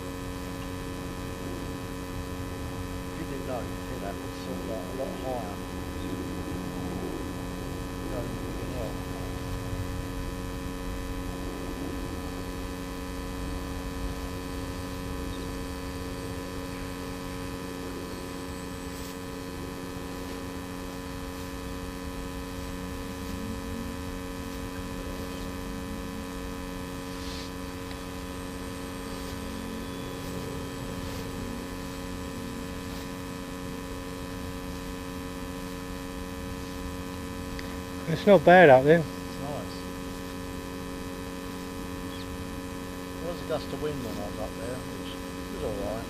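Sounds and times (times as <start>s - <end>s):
steady hum with overtones: 0.0s - 46.0s.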